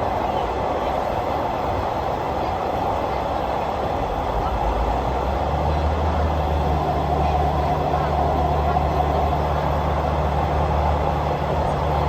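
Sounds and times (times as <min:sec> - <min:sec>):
train wheels and carriage noise: 0:00.0 - 0:12.0.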